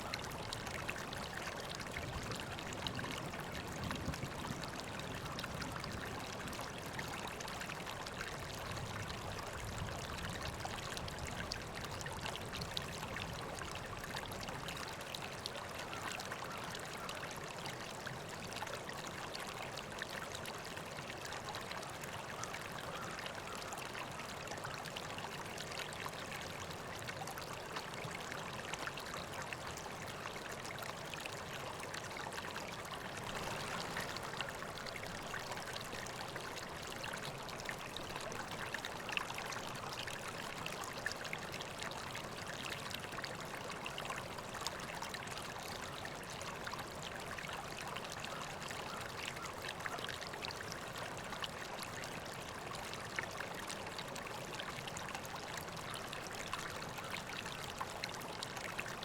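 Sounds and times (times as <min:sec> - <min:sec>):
river water babbling over stones: 0:10.6 - 0:59.0.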